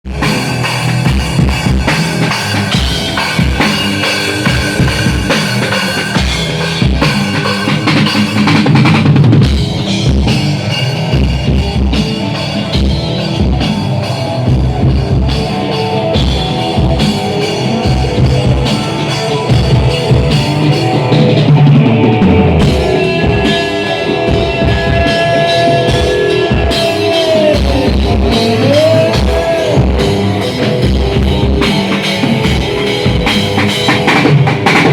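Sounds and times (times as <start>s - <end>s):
drum kit beat: 0.0s - 34.9s
guitar: 0.0s - 34.9s
live rock band: 0.0s - 34.9s.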